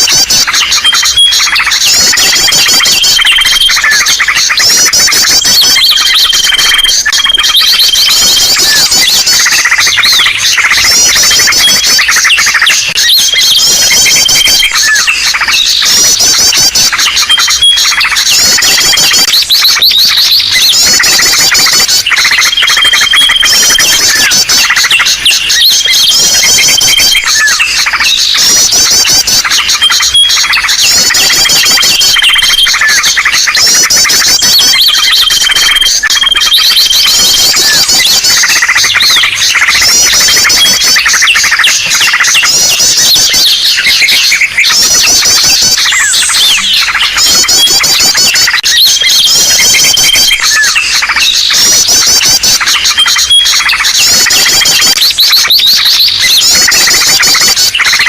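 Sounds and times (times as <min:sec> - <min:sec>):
chorus of small birds calling: 0:00.0 - 0:58.0
rapid high bird chirps: 0:00.0 - 0:58.0.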